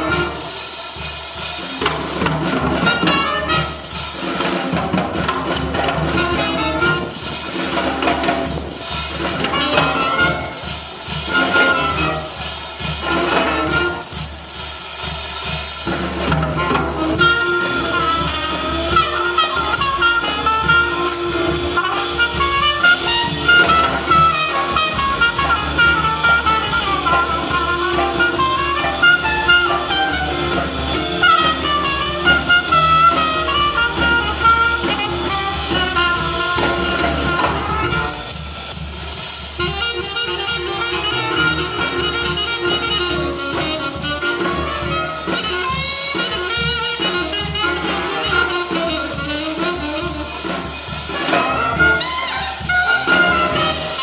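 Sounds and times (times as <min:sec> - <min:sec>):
horns playing melody: 0:00.0 - 0:14.6, 0:16.2 - 0:38.9, 0:39.6 - 0:54.0
jazz band playing: 0:00.0 - 0:54.0.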